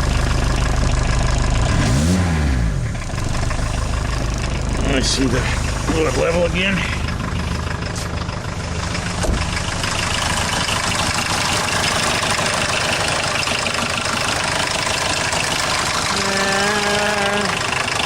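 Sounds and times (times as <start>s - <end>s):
exhaust leak: 0.0s - 2.1s, 2.8s - 18.0s
diesel engine idling: 0.0s - 18.0s.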